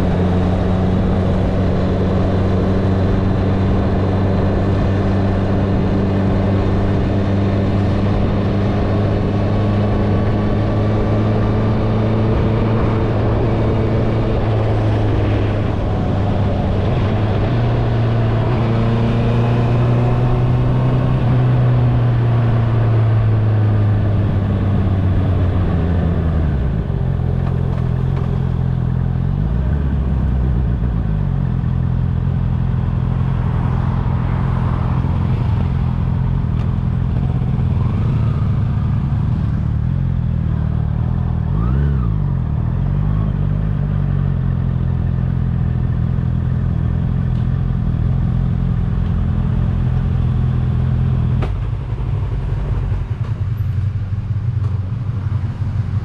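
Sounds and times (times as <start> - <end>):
motorcycle engine running: 0.0 - 41.5, 42.1 - 56.0.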